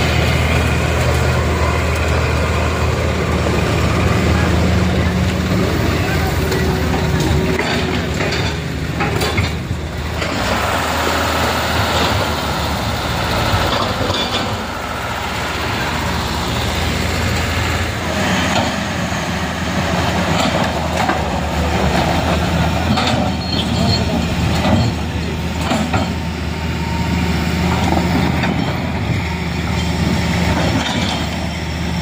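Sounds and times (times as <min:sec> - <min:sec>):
heavy vehicle engine running: 0:00.0 - 0:32.0
road noise: 0:00.0 - 0:32.0.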